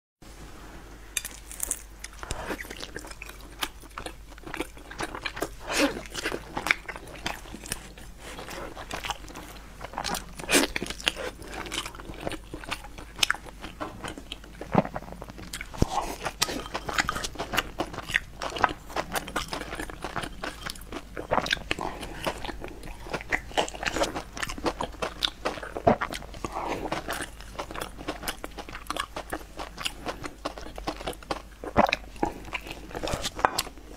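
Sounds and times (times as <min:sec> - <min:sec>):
person chewing food: 0:01.2 - 0:33.9.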